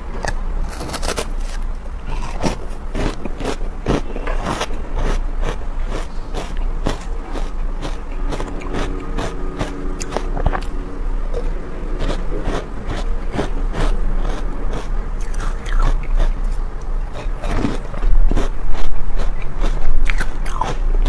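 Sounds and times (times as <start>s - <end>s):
low steady hum: 0.0s - 21.0s
chewing crunchy ice: 0.2s - 10.8s, 11.4s - 21.0s.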